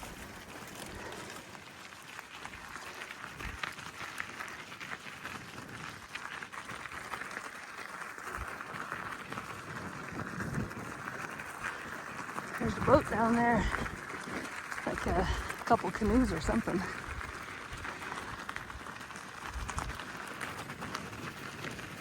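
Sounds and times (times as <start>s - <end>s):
bike tyres rolling on mud: 0.0s - 22.0s.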